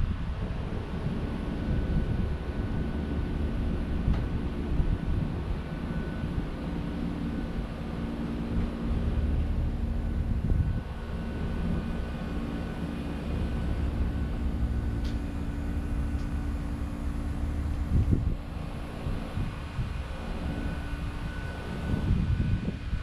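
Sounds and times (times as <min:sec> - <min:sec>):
distant machinery hum: 0:00.0 - 0:23.0
wind buffeting microphone: 0:00.0 - 0:23.0.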